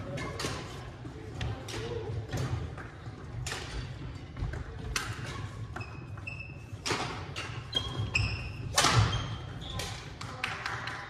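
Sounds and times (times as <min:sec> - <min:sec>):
rackets striking shuttlecock: 0:00.1 - 0:06.0, 0:06.7 - 0:10.0.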